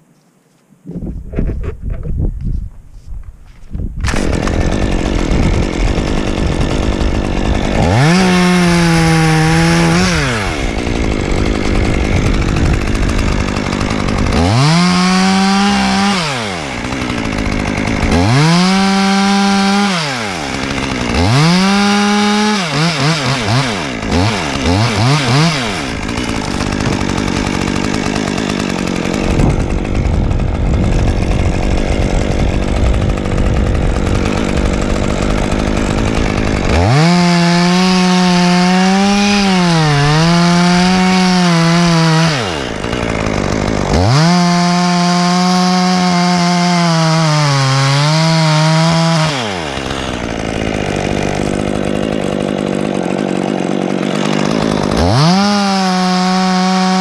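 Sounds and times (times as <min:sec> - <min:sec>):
chainsaw revving: 0:04.0 - 0:57.0.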